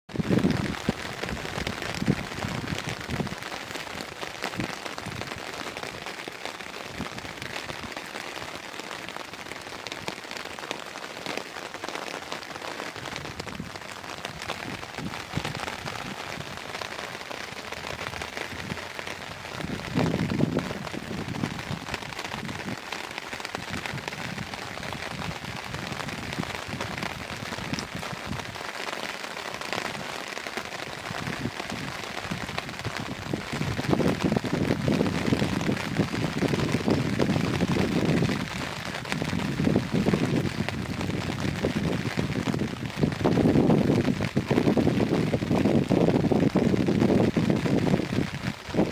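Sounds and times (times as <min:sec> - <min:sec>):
rain pattering: 0:00.1 - 0:48.9.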